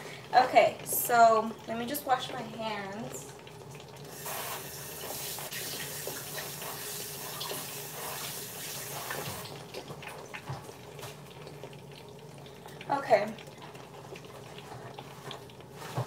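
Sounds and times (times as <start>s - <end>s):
faucet running: 0.0s - 16.0s.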